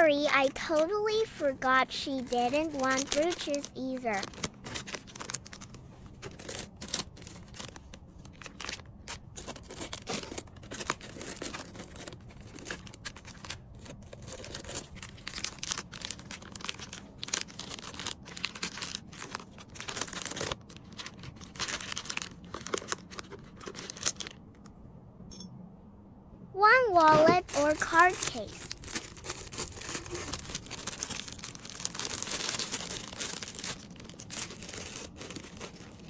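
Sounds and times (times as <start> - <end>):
packaging crinkling and rustling: 0.2 - 24.7, 27.0 - 36.0.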